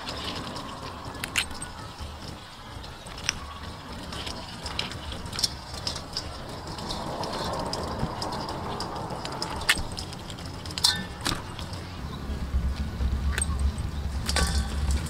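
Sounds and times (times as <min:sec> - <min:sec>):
crab shells clicking on metal: 0:00.0 - 0:11.9, 0:13.3 - 0:15.0.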